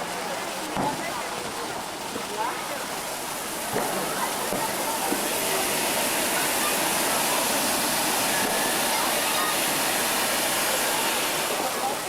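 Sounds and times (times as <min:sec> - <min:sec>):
faint voices: 0:00.0 - 0:12.0
firework fountain hissing: 0:00.0 - 0:12.0.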